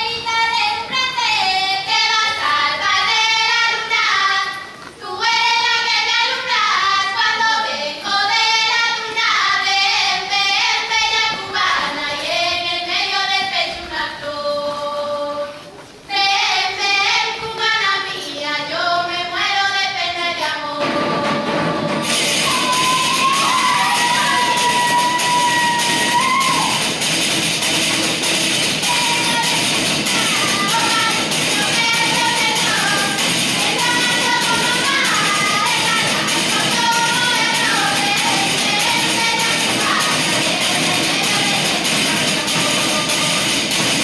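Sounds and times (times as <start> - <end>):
women singing in harmony: 0.0 - 26.8, 28.8 - 43.6.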